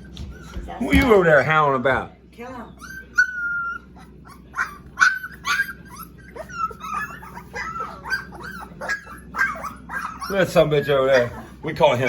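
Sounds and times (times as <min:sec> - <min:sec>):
puppies whimpering and yelping: 0:00.0 - 0:00.9, 0:02.6 - 0:12.0.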